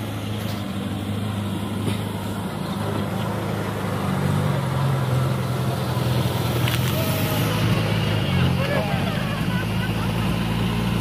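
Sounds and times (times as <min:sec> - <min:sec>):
jeep engine driving: 0:00.0 - 0:11.0.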